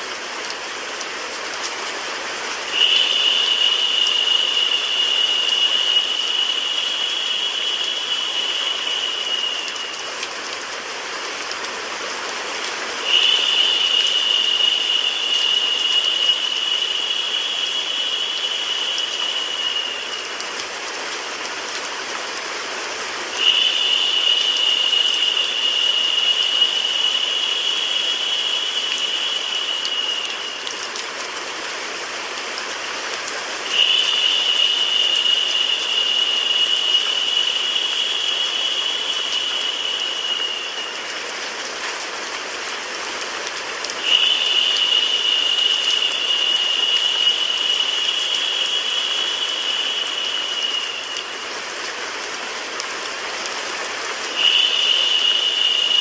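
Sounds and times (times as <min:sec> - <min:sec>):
rain with white noise hiss: 0:00.0 - 0:56.0
brighter higher hiss: 0:02.1 - 0:11.2, 0:12.5 - 0:21.7, 0:22.6 - 0:32.2, 0:32.9 - 0:42.1, 0:44.0 - 0:53.5, 0:54.2 - 0:56.0.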